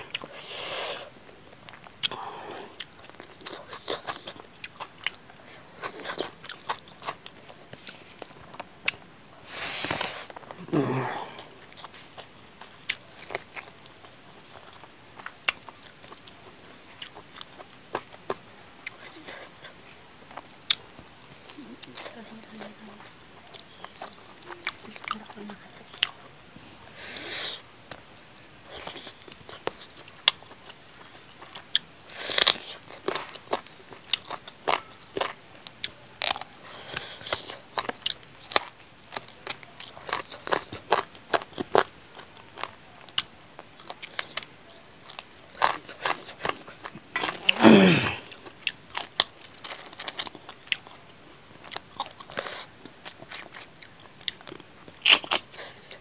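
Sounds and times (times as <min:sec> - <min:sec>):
person chewing and biting: 0:00.0 - 0:19.1, 0:20.2 - 0:22.1, 0:25.9 - 0:26.2, 0:27.0 - 0:56.0.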